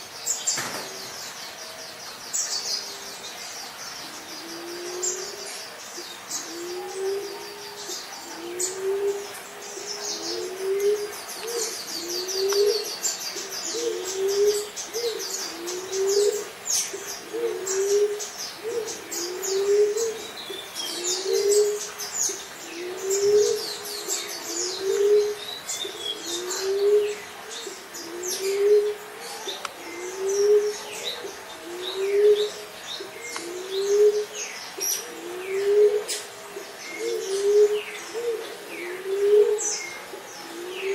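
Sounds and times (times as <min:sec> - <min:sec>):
small birds chirping: 0:00.0 - 0:40.9
dove cooing: 0:04.3 - 0:05.7, 0:06.4 - 0:40.9.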